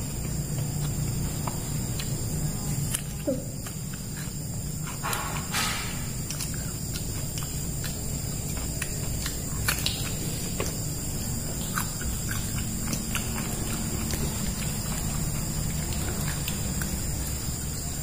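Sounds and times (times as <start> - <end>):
children chewing and smacking lips: 0.0 - 18.0
steady low hum: 0.0 - 18.0.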